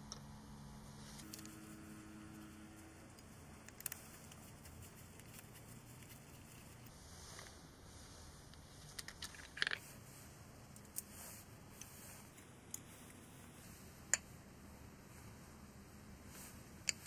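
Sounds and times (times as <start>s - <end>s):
faint steady background: 0.0s - 17.0s.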